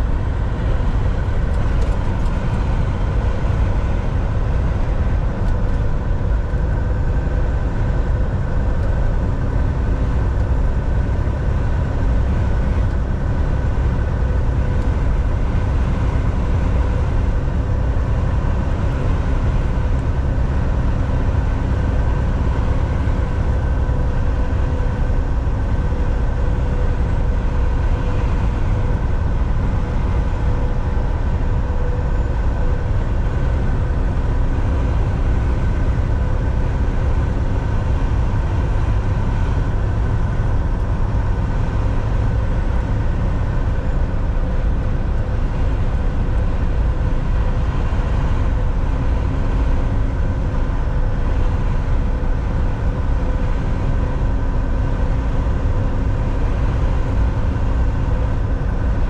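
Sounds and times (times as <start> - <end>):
steady hum: 0.0 - 59.0
truck engine and road noise: 0.0 - 59.0.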